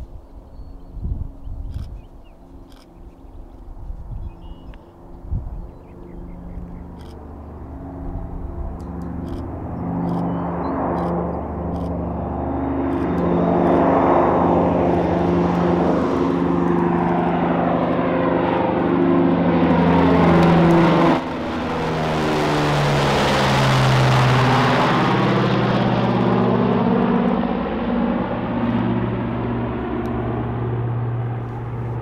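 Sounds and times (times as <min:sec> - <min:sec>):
propeller aircraft engines droning: 0:00.0 - 0:32.0.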